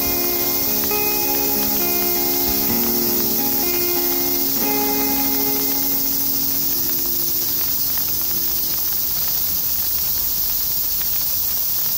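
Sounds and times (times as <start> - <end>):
acoustic guitar chord ringing: 0.0 - 9.8
high-pitched insect chorus: 0.0 - 11.8.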